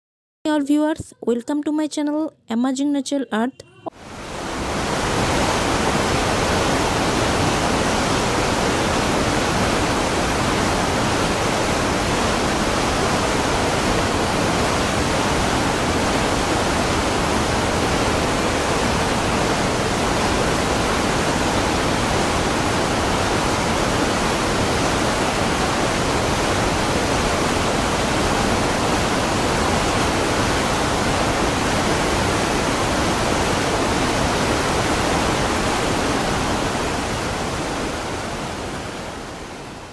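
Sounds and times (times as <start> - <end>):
waterfall rushing: 3.9 - 39.9.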